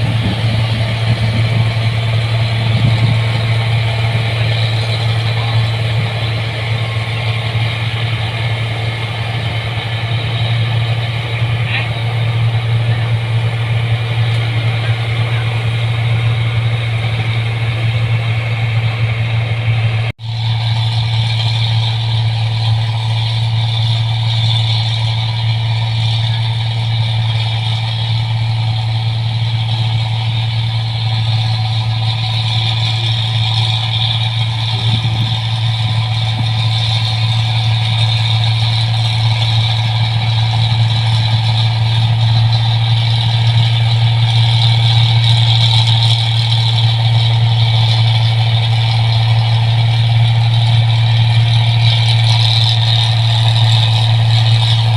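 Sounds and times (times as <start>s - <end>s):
combine harvester droning: 0.0s - 54.9s.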